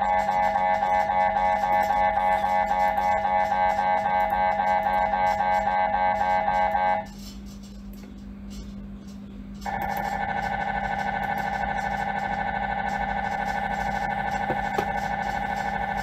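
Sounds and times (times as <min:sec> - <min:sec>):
electronic tone with fluttering pulse: 0:00.0 - 0:07.3, 0:09.6 - 0:16.0
mri scanner low hum: 0:00.0 - 0:16.0.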